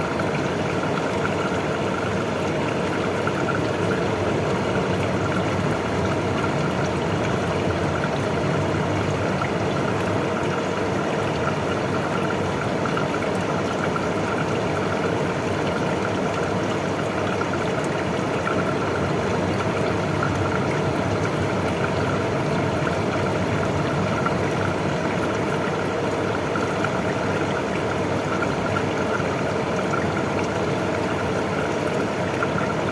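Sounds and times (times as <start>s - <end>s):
air cooler fan blowing: 0.0s - 32.9s.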